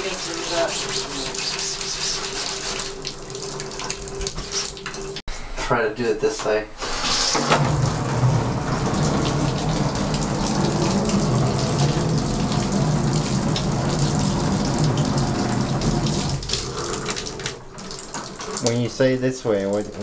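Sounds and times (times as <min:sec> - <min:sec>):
shower head spraying water: 0:00.0 - 0:05.2, 0:06.8 - 0:20.0.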